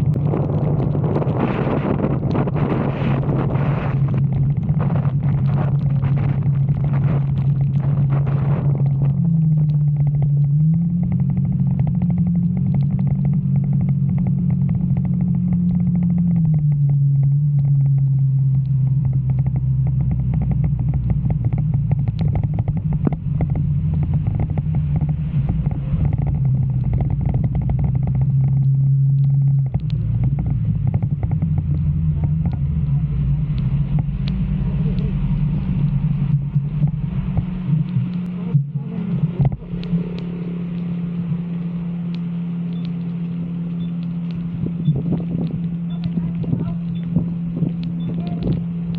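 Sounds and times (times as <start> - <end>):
light ticks: 0.0 - 48.9
motorcycle engine running: 0.0 - 48.9.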